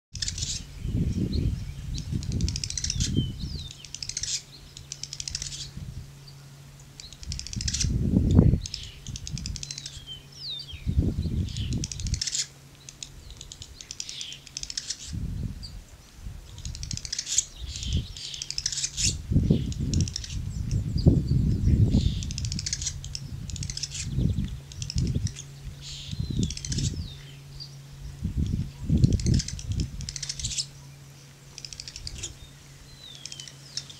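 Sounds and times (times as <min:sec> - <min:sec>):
swallows clicking and chirping: 0:00.2 - 0:00.6, 0:01.9 - 0:05.8, 0:07.0 - 0:10.7, 0:11.4 - 0:15.2, 0:16.4 - 0:33.9.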